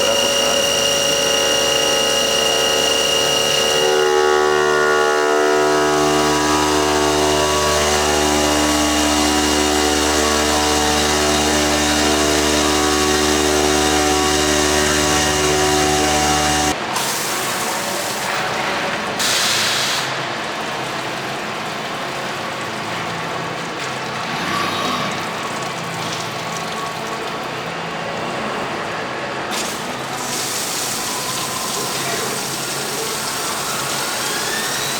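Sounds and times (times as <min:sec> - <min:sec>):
machine whine: 0:00.0 - 0:18.7, 0:20.1 - 0:34.9.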